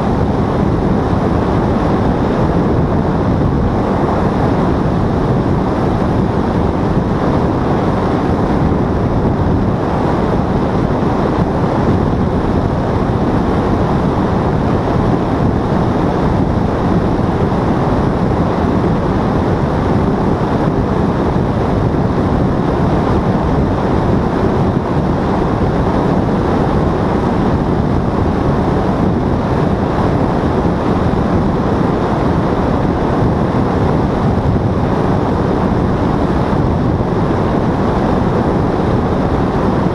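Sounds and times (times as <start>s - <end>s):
paramotor engine and propeller: 0.0s - 39.9s
wind rushing over microphone: 0.0s - 39.9s.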